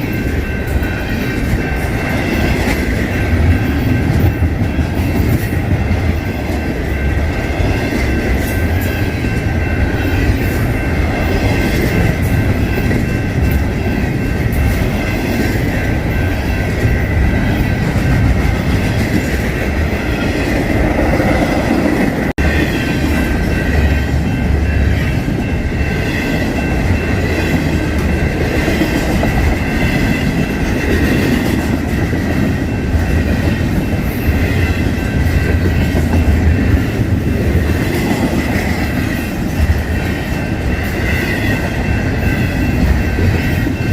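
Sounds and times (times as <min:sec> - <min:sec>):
freight train rumble: 0:00.0 - 0:43.9.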